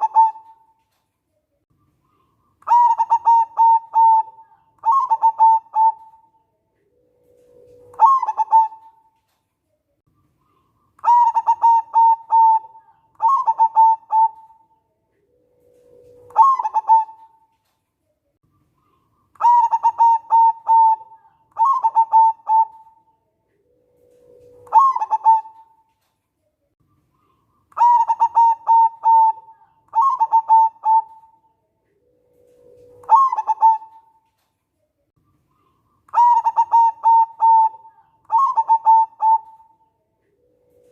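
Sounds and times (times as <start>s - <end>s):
dove cooing: 0.0s - 0.8s, 2.1s - 9.2s, 10.5s - 17.6s, 18.8s - 25.9s, 27.2s - 34.3s, 35.5s - 40.9s.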